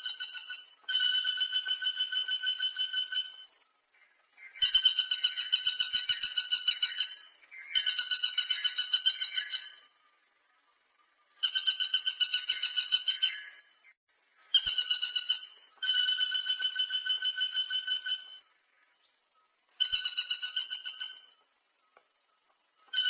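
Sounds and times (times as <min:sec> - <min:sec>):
woodpecker rattling calls: 0:00.0 - 0:10.0, 0:11.4 - 0:19.1, 0:19.7 - 0:23.0.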